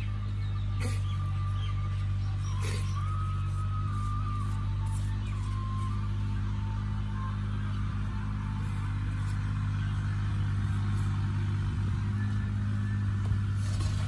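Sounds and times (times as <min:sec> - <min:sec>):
engine running low hum: 0:00.0 - 0:14.0.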